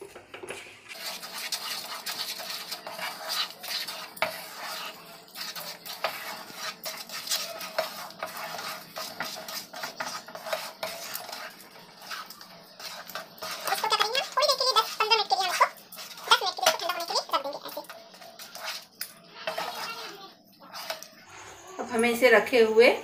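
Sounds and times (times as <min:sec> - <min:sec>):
spatula scraping dough in pan: 0:00.0 - 0:22.6.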